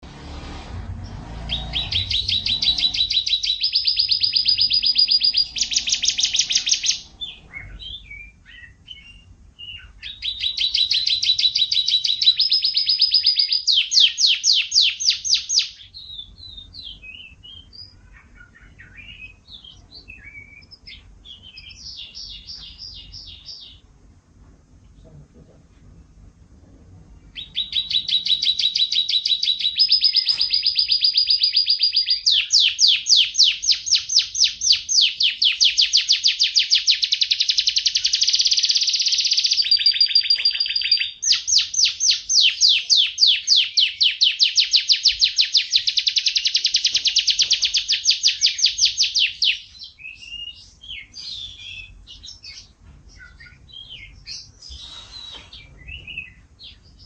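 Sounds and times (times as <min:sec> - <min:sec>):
canary singing trills: 0:00.8 - 0:24.3, 0:27.1 - 0:57.0
short bird chirps: 0:01.0 - 0:23.8, 0:27.4 - 0:51.9, 0:53.2 - 0:56.4.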